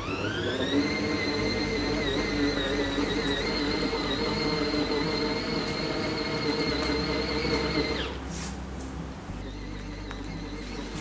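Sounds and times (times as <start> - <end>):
washing machine motor whining: 0.0 - 8.2, 9.4 - 11.0.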